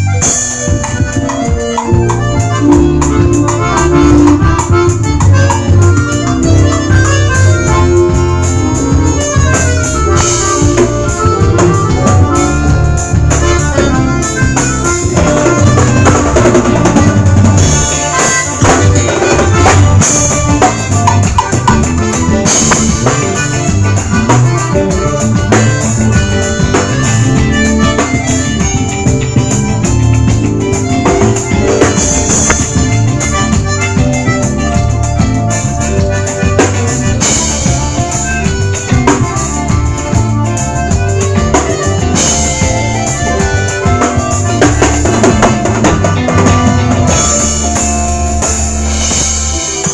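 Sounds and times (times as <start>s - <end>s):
drum kit steady beat: 0.0s - 49.9s
live band playing: 0.0s - 49.9s.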